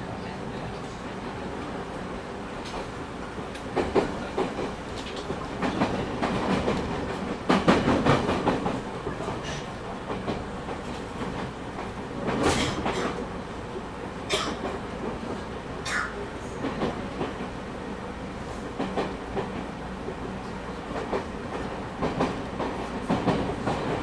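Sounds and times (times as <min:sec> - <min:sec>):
train interior running noise: 0:00.0 - 0:24.0.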